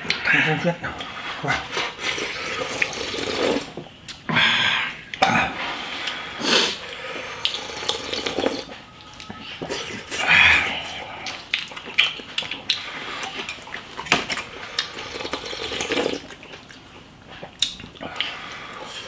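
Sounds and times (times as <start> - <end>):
quiet eating noises: 0.0 - 19.0
people slurping broth: 0.1 - 8.8, 9.5 - 16.8, 17.4 - 19.0.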